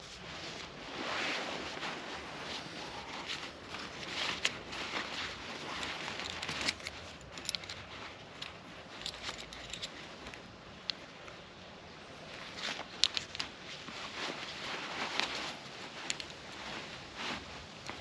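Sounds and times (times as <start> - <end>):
nylon fabric rustling: 0.0 - 18.0.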